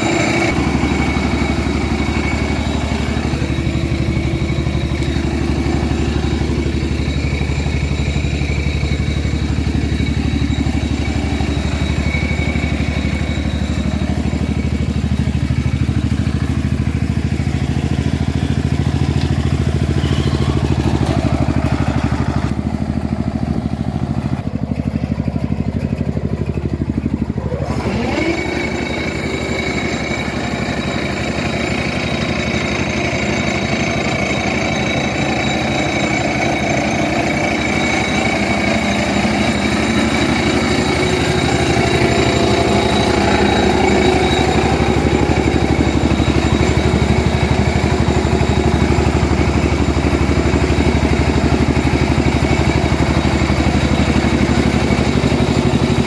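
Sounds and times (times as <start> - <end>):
grass cutter whine: 0.0 - 24.5, 26.5 - 56.0
diesel engine chugging: 0.0 - 56.0.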